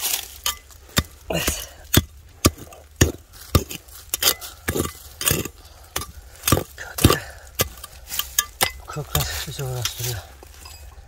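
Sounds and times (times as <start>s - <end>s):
digging tool striking stony soil: 0.0s - 11.0s.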